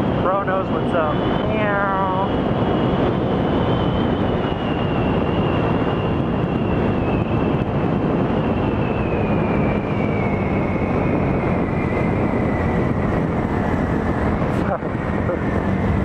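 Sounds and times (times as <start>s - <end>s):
high whine: 0.0s - 16.0s
wind and road noise: 0.0s - 16.0s.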